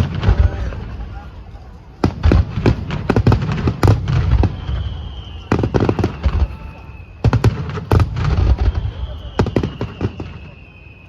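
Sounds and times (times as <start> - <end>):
firework bangs and crackling: 0.0 - 11.0
faint high firework whistle: 2.0 - 11.0.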